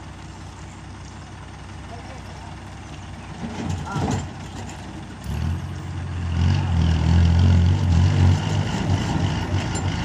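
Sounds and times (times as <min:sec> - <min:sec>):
diesel engine under load: 0:00.0 - 0:10.0.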